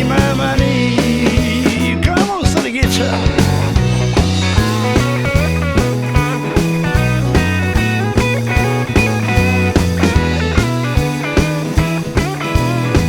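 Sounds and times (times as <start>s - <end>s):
drum and bass groove: 0.0s - 13.0s
electric guitar lead: 0.0s - 13.0s.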